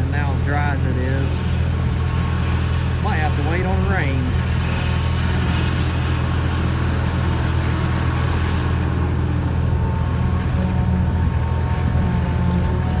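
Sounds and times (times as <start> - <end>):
forage harvester diesel drone: 0.0 - 13.0.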